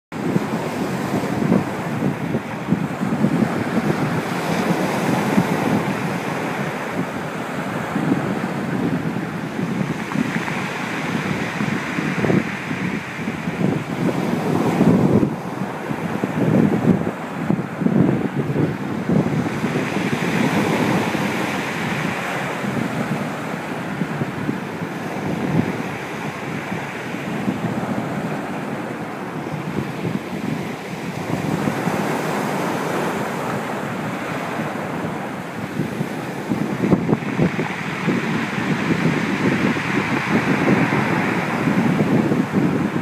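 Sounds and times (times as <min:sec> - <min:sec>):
waves breaking on beach: 0:00.1 - 0:43.0
wind buffeting microphone: 0:00.1 - 0:43.0.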